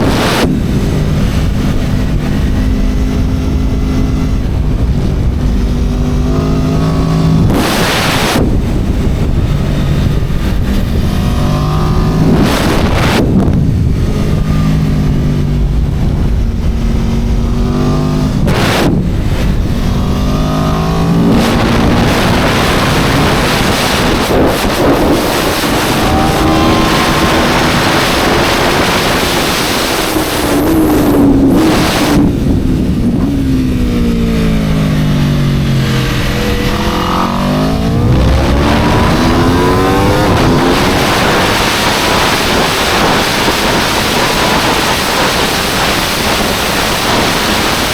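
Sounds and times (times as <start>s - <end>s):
motorcycle engine running hard: 0.0s - 47.9s
wind rushing: 0.0s - 47.9s.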